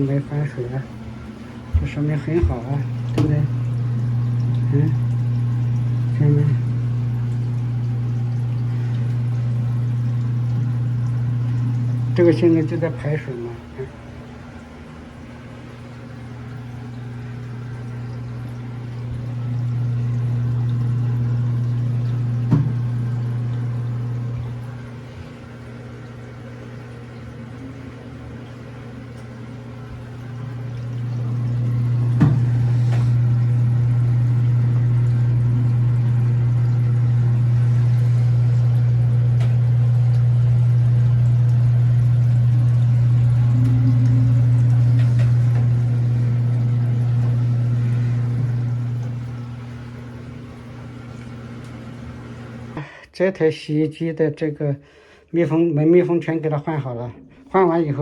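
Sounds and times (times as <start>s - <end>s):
water rushing through pipe: 0.0s - 52.8s
drain pump humming: 0.0s - 58.0s.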